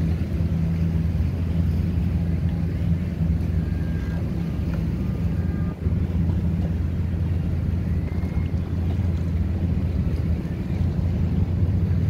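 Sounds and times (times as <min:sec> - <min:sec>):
motorboats rumbling: 0:00.0 - 0:12.0
wind buffeting microphone: 0:00.0 - 0:12.0.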